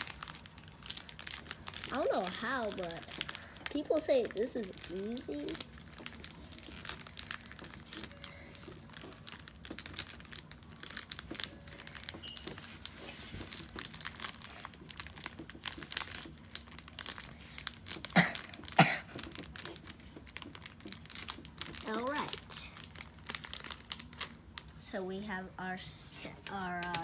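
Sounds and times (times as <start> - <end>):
fingers kneading sticky candy: 0.0 - 24.8.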